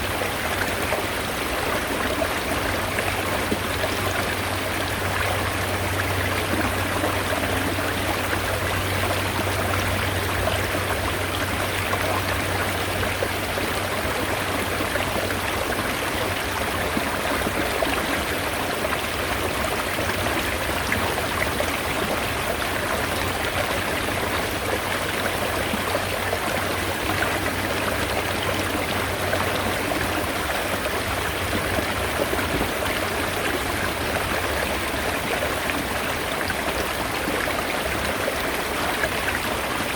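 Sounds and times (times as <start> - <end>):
mountain stream water running: 0.0 - 39.9.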